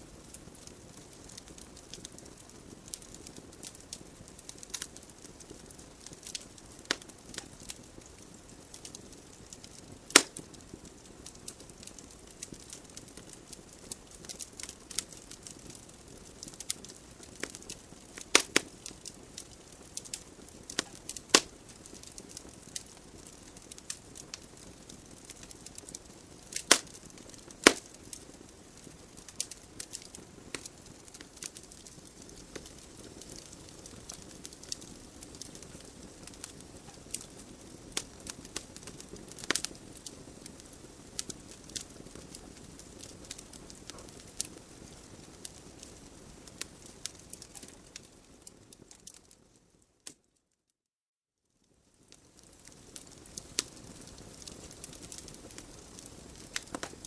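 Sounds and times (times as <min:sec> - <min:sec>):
logs crackling and popping: 0:00.0 - 0:50.4, 0:51.9 - 0:57.0
fire hissing: 0:00.1 - 0:47.8, 0:52.6 - 0:57.0.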